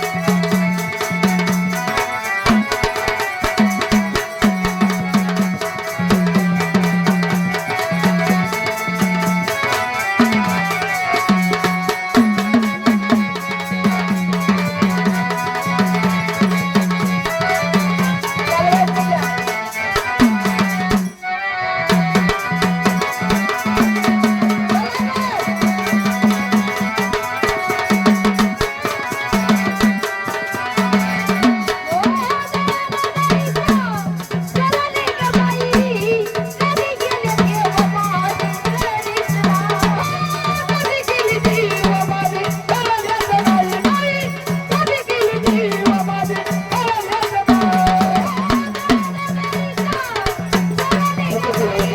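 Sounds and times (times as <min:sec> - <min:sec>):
pitched drum beating: 0:00.0 - 0:21.3, 0:21.9 - 0:51.9
held melodic notes: 0:00.0 - 0:51.9
rattling percussion: 0:00.0 - 0:51.9.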